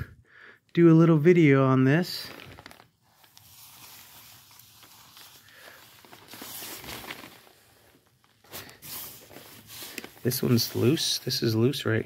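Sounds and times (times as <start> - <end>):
cloth rustling: 1.8 - 12.0.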